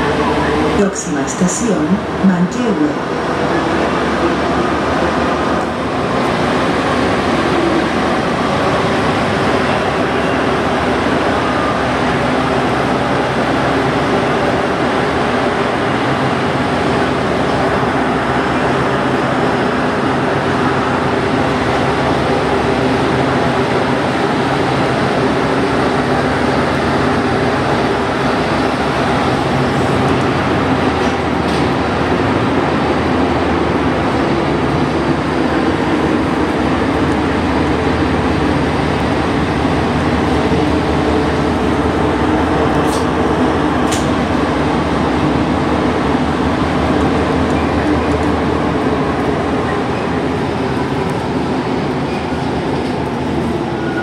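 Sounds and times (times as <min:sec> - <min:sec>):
metro train rumbling in tunnel: 0:00.0 - 0:54.0.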